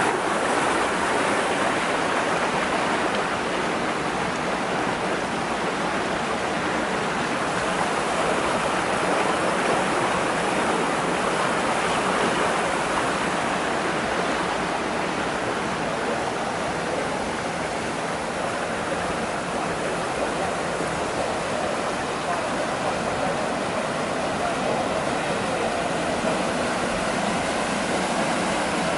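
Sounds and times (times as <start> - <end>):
wastewater rushing through channel: 0.0 - 28.9.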